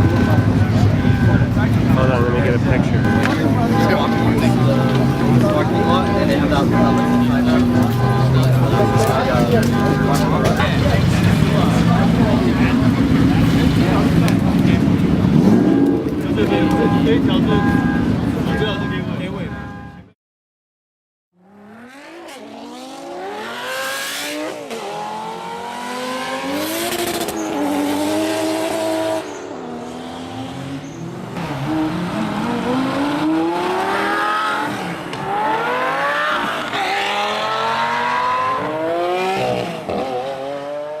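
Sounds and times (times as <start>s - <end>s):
sports car accelerating hard: 0.0s - 18.9s, 21.4s - 41.0s.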